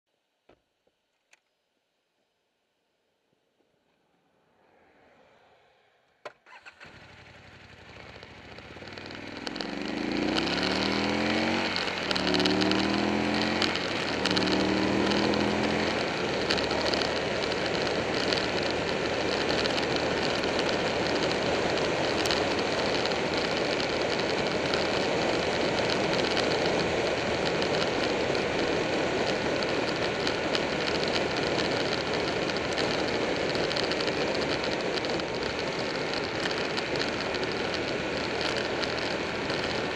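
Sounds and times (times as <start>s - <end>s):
wind and road noise: 3.6s - 39.9s
motorcycle accelerating through gears: 4.6s - 39.9s.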